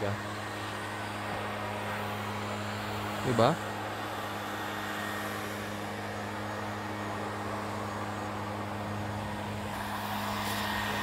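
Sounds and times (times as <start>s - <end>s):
engine humming evenly: 0.0s - 11.0s
steady hiss: 0.0s - 11.0s.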